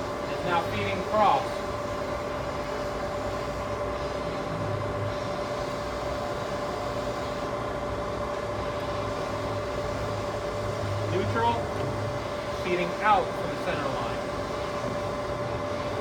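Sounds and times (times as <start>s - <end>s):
lathe whining: 0.0s - 16.0s.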